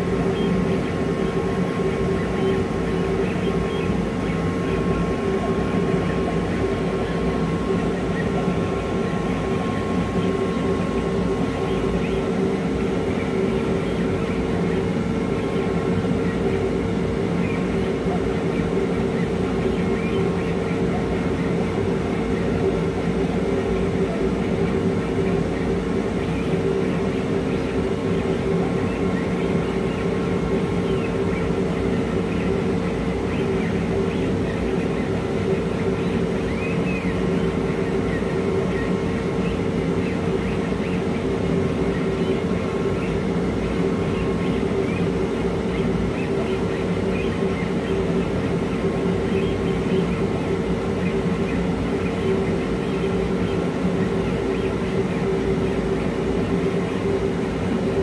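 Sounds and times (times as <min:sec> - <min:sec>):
faint motor whines: 0:00.0 - 0:58.0
laser cutter fans droning: 0:00.0 - 0:58.0.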